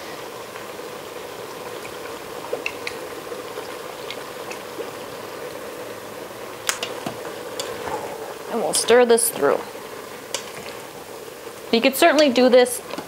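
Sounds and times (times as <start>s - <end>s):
food simmering and bubbling: 0.0s - 13.0s.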